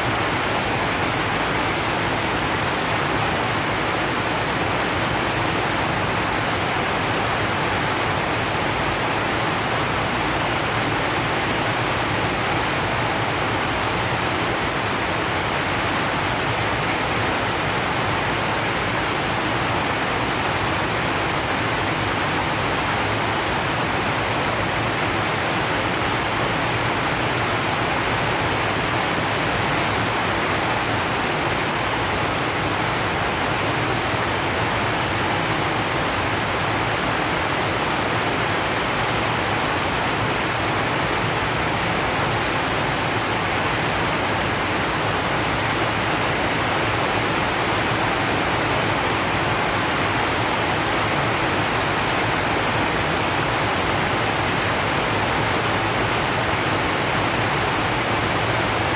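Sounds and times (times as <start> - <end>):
rain on a metal roof: 0.0 - 58.9.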